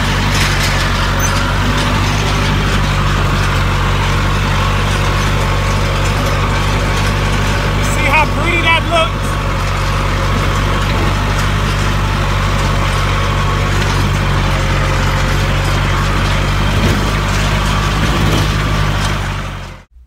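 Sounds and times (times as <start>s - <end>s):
tractor engine droning and rattling: 0.0s - 20.0s.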